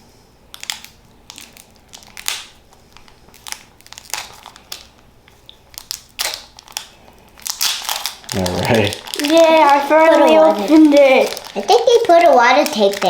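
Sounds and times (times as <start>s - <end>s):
foil wrapper crinkling: 0.5s - 13.0s.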